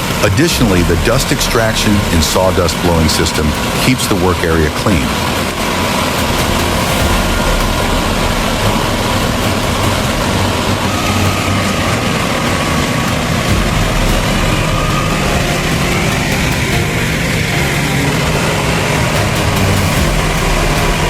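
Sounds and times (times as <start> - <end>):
portable sawmill running: 0.0 - 21.0.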